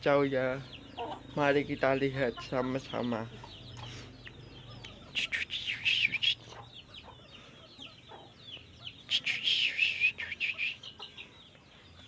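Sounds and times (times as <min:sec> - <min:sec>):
bulbul chirpy song: 0:00.7 - 0:11.3.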